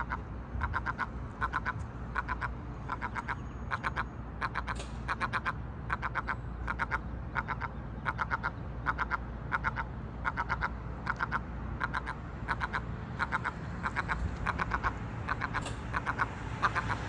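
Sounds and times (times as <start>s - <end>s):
gull alarm call: 0.0s - 17.0s.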